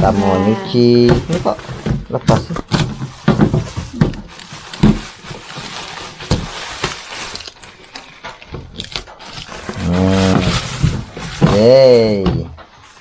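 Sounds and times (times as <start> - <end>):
knocks and rattles of parts handled: 1.0 - 13.0.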